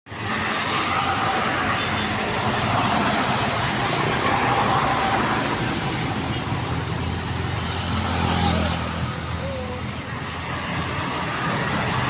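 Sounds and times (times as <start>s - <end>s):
highway traffic passing: 0.1s - 12.0s.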